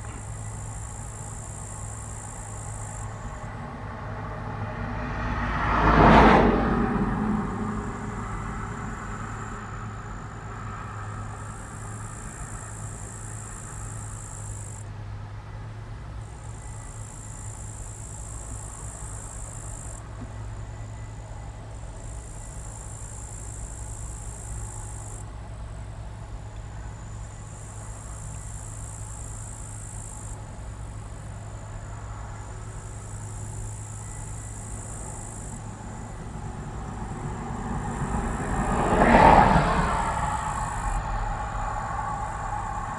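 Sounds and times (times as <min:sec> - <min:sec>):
combine harvester humming: 0:00.0 - 0:42.9
insects buzzing: 0:00.0 - 0:42.9.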